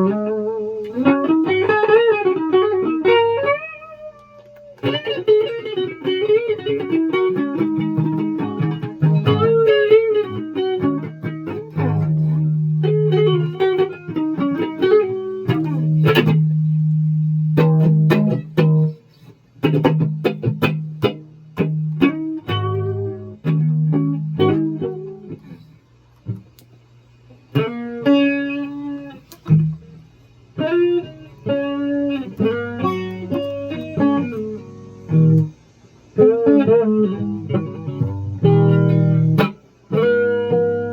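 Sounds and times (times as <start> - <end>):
solo guitar playing: 0.0 - 26.5, 27.5 - 40.9.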